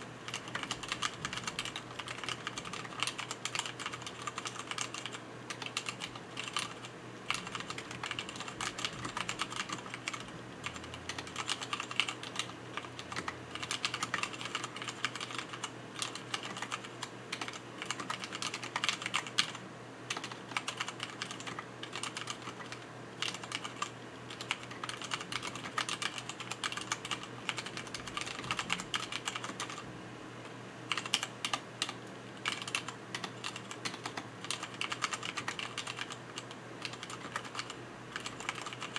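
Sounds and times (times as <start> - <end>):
mechanical keyboard typing: 0.2 - 29.8, 30.9 - 38.9.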